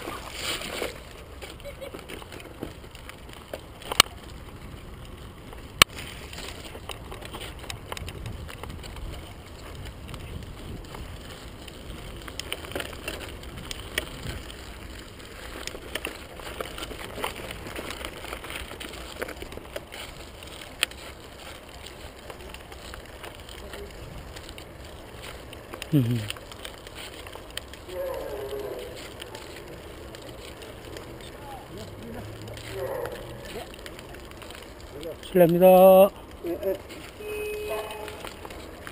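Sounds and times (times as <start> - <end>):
bike rattling over bumps: 0.0 - 38.9
tyres rumbling on rough ground: 0.0 - 38.9.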